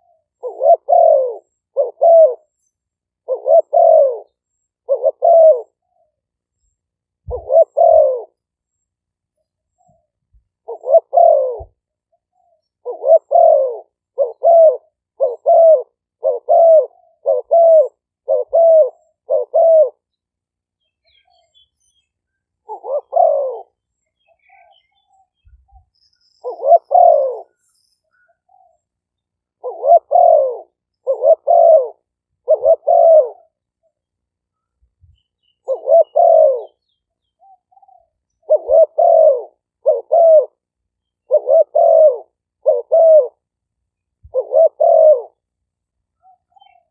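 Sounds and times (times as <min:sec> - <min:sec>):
dove cooing: 0:00.0 - 0:06.2, 0:07.2 - 0:08.5, 0:09.7 - 0:20.1, 0:22.6 - 0:43.5, 0:44.2 - 0:45.5, 0:46.2 - 0:46.9.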